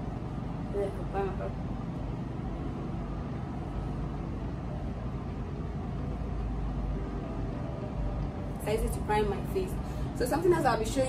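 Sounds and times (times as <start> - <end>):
faint hum: 0.0 - 11.0
low mechanical rumble: 0.0 - 11.0.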